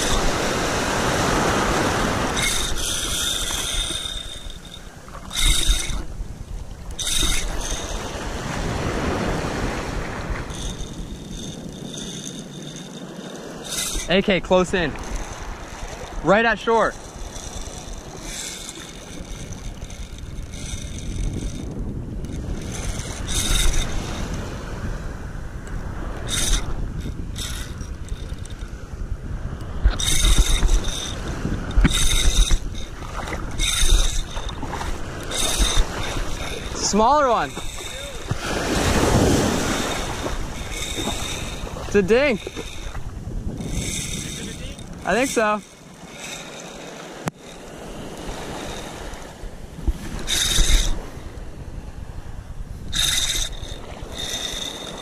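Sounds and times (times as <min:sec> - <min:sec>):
fishing reel whirring: 0:00.0 - 0:55.0
surf washing: 0:00.0 - 0:55.0
wind on microphone: 0:00.0 - 0:55.0.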